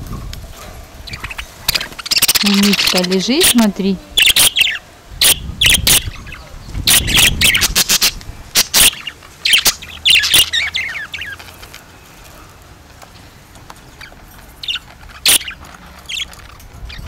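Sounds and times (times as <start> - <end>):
budgerigars chirping: 1.0 - 11.8, 13.1 - 17.0.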